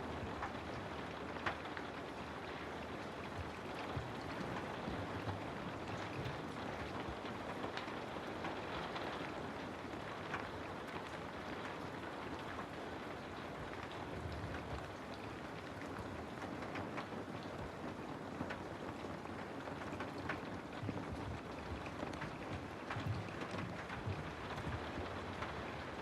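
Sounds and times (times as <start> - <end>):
raindrops ticking: 0.0 - 26.0
steady rain falling: 0.0 - 26.0.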